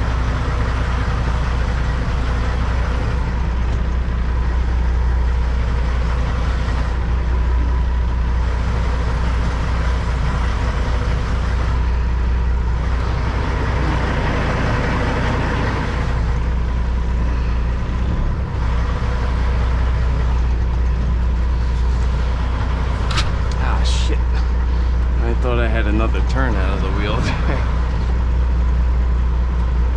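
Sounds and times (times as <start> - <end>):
truck diesel engine droning: 0.0 - 29.9.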